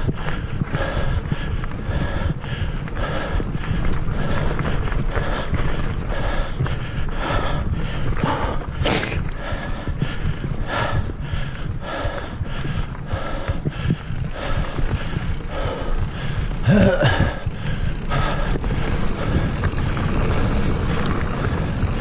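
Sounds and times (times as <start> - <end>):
bike rattling over rough dirt: 0.0 - 22.0.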